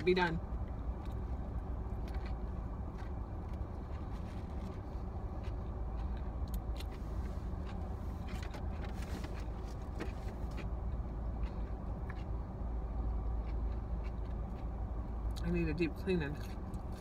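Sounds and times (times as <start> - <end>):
car rumble from inside: 0.0 - 17.0.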